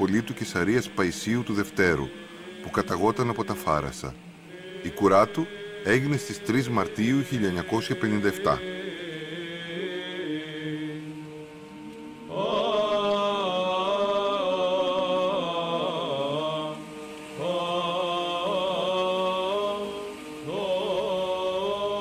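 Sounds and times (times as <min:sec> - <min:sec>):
slow chanted singing: 0:00.0 - 0:22.0.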